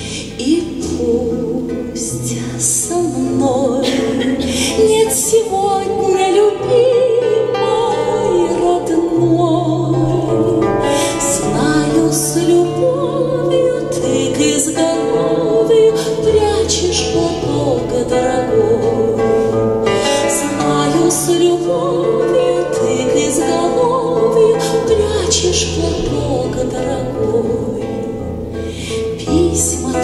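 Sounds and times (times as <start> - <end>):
acoustic guitar: 0.0 - 30.0
woman singing with vibrato: 0.0 - 30.0.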